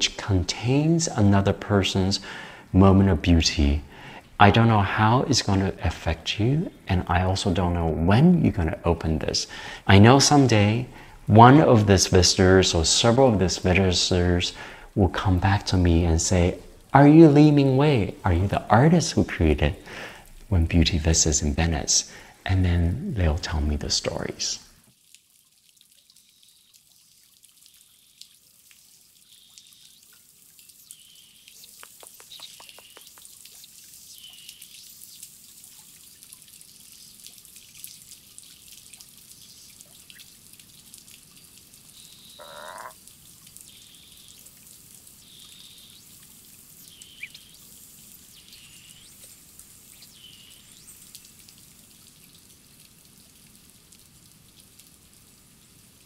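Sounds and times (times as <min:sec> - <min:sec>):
fountains trickling into pond: 0:00.0 - 0:56.0.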